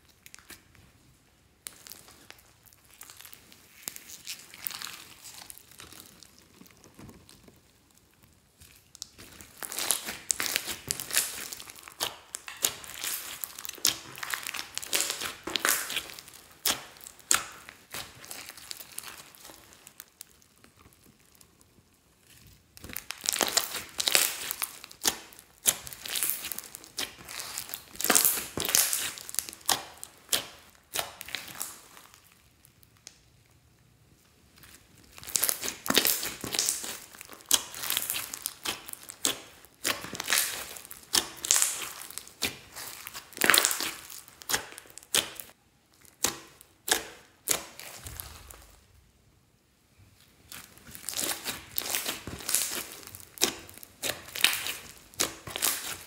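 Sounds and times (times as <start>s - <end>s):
slime with foam beads crunching: 1.5s - 33.3s, 34.5s - 48.9s, 50.2s - 56.0s.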